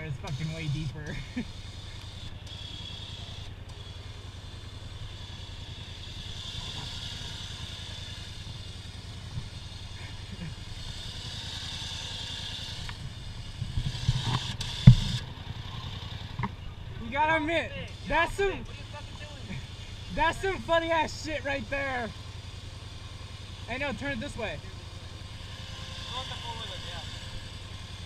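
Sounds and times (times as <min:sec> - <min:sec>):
atv engine idling: 0:00.0 - 0:28.0
electric winch whining: 0:00.0 - 0:28.0.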